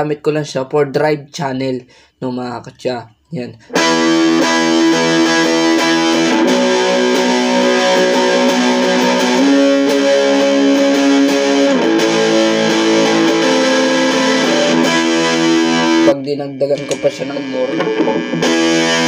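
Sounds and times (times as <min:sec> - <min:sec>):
distorted electric guitar chords: 0:03.7 - 0:19.0.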